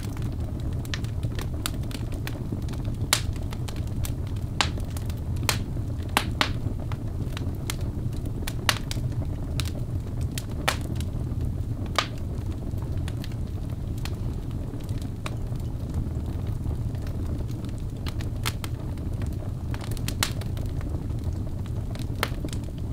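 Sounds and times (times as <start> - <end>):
low rumble of flames: 0.0 - 22.9
wood fire crackling and popping: 0.0 - 22.9.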